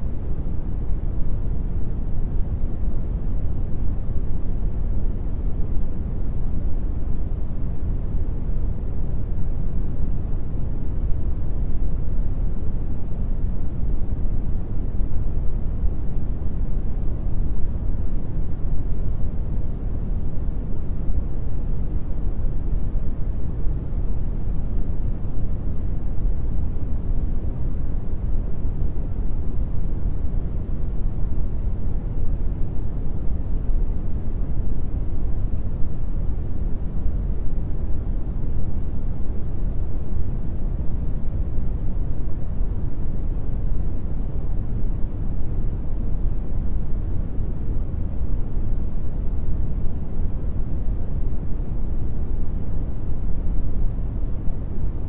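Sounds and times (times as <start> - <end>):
brown noise hiss: 0.0 - 55.0.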